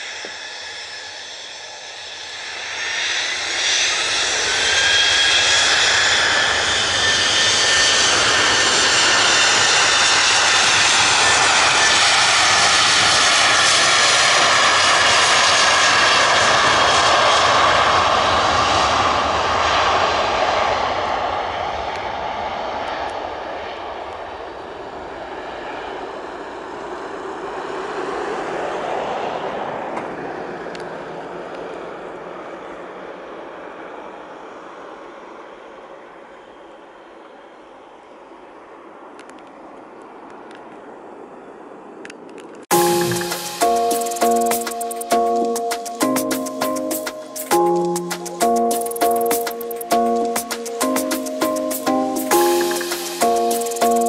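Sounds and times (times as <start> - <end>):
jet engines taking off: 0.0 - 54.0.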